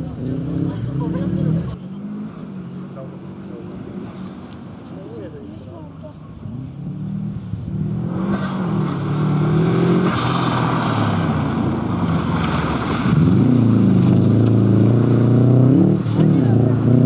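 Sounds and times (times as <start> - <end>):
rally car engine: 0.0 - 17.0.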